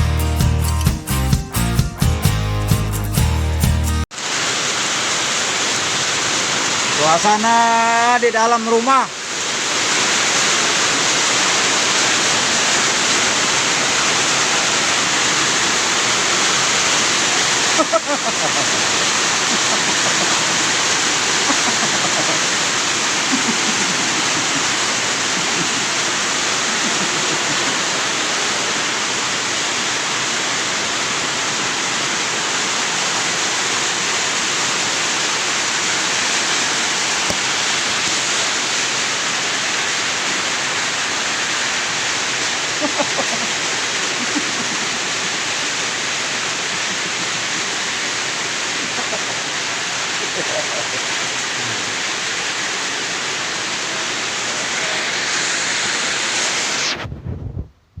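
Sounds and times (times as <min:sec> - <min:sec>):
loud steady hiss: 0:02.5 - 0:57.6.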